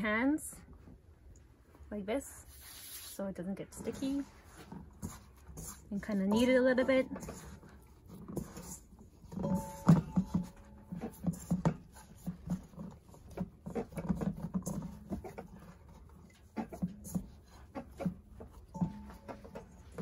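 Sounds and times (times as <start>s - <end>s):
hands kneading dough in metal bowl: 2.4s - 20.0s.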